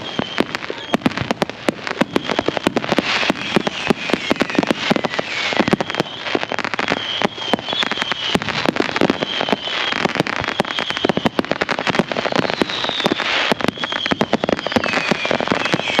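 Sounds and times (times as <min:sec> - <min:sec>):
fireworks bangs and crackles: 0:00.0 - 0:16.0
high fireworks whistles: 0:00.0 - 0:16.0.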